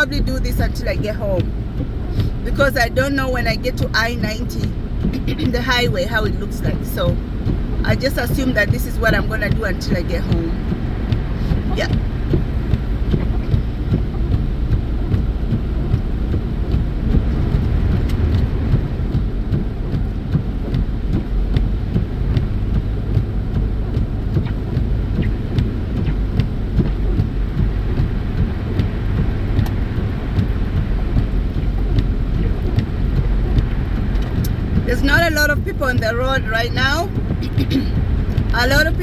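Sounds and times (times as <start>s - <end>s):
car tyres and engine rumble: 0.0s - 39.0s.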